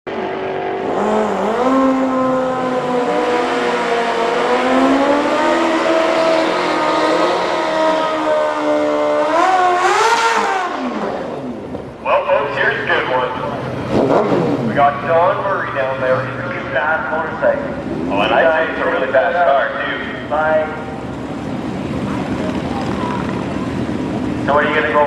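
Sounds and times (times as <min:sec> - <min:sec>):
racing engine at high revs: 0:00.1 - 0:25.0.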